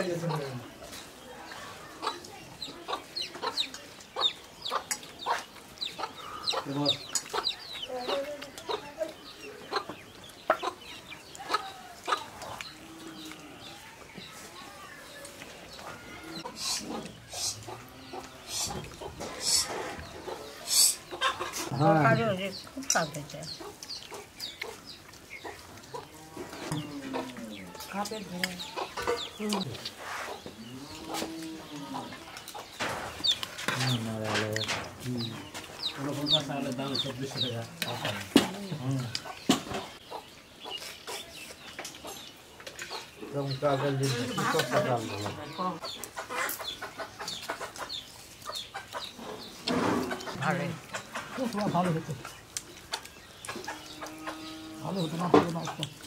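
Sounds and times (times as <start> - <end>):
chickens clucking: 0.0 - 56.0
small birds chirping: 0.0 - 56.0.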